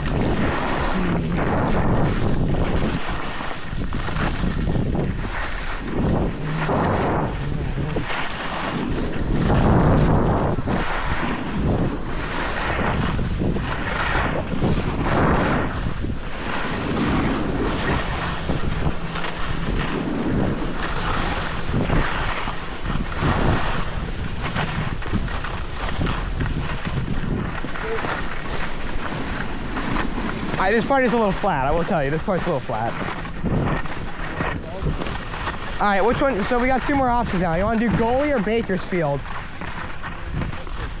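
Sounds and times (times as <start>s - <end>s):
snow hissing and scraping underneath: 0.0s - 41.0s
wind buffeting microphone: 0.0s - 41.0s.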